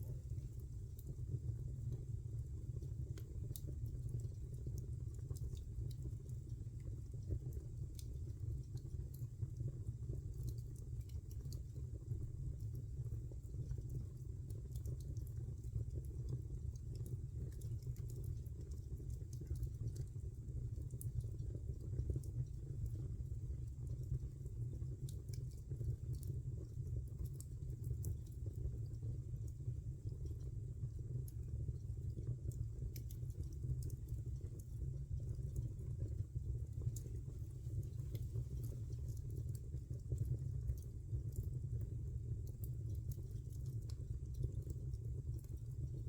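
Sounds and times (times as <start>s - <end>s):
low fire rumble: 0.0s - 46.0s
wood fire crackling: 0.0s - 46.0s.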